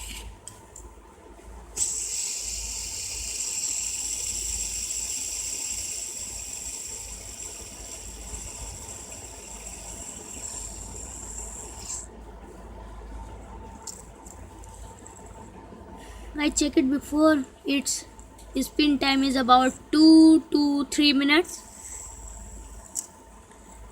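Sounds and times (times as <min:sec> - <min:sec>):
fidget spinner whirring: 0:00.0 - 0:00.9, 0:01.7 - 0:23.9.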